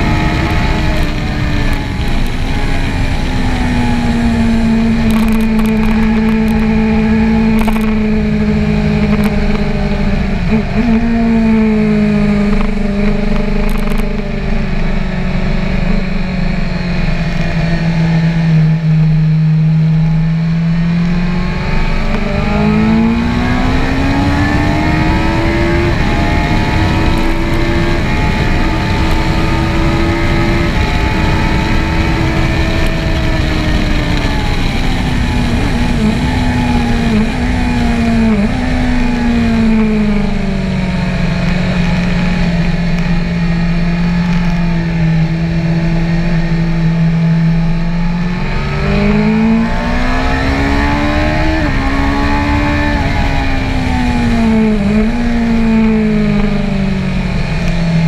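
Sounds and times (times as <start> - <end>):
motorcycle engine accelerating: 0.0 - 58.0
wind rushing over microphone: 0.0 - 58.0.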